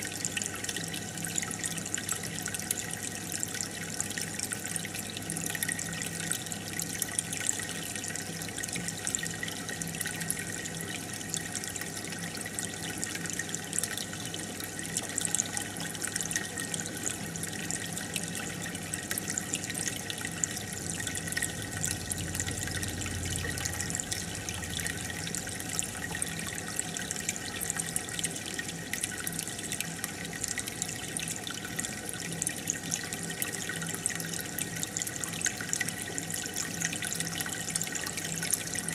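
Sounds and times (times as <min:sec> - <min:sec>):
aquarium water trickling and bubbling: 0:00.0 - 0:38.9
faint steady hum: 0:00.0 - 0:38.9.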